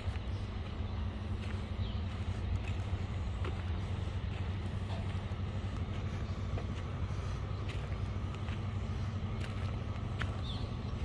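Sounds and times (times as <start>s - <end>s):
footsteps on gravel path: 0.0s - 11.0s
steady low rumble: 0.0s - 11.0s.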